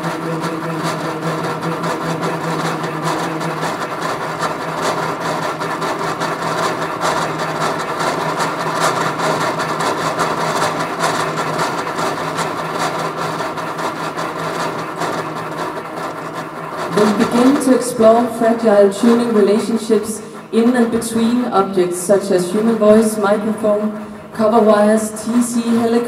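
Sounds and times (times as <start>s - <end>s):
dense buzzing drone: 0.0s - 26.0s.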